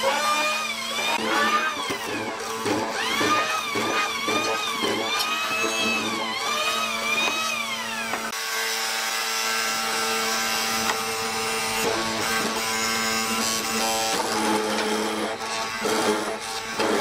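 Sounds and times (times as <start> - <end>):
mortising machine motor running: 0.0 - 8.4, 9.7 - 17.0.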